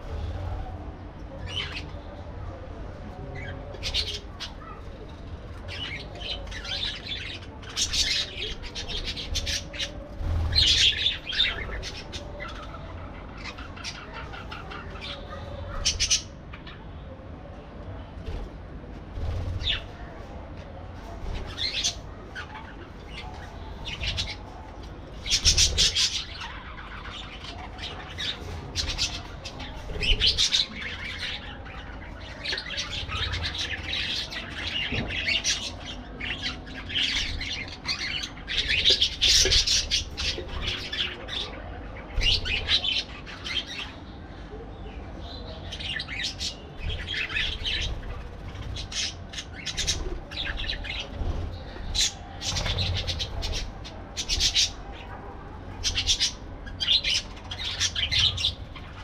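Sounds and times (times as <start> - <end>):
parakeets chirping and squawking: 0.0 - 2.1, 3.1 - 16.8, 19.1 - 20.0, 21.0 - 44.3, 45.4 - 59.0.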